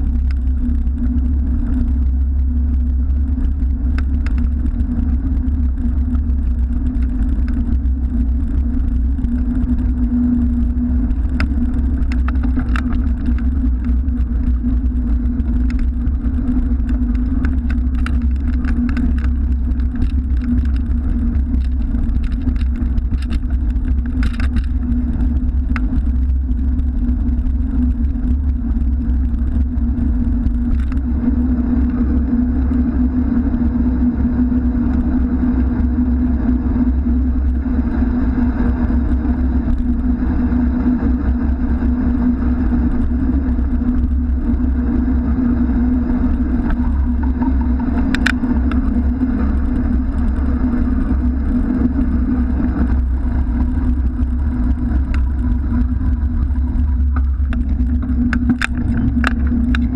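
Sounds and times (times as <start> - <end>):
bicycle clicks and rattles: 0.0 - 59.9
bicycle ride rumble: 0.0 - 59.9
road traffic: 0.0 - 59.9.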